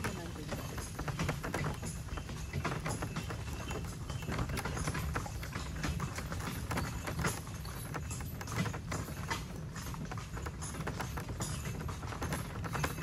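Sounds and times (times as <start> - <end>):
cart rumbling and rattling: 0.0 - 13.0
hooves clip-clopping on gravel: 0.0 - 13.0.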